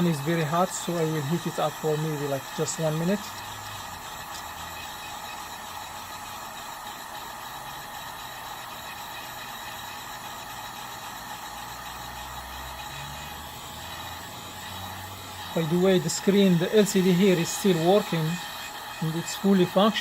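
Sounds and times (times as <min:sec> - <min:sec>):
heat gun fan hiss: 0:00.0 - 0:20.0.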